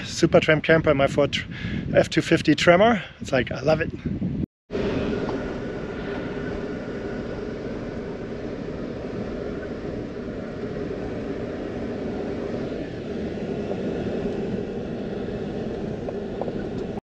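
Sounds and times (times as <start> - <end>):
truck engine and road rumble: 3.2 - 17.0.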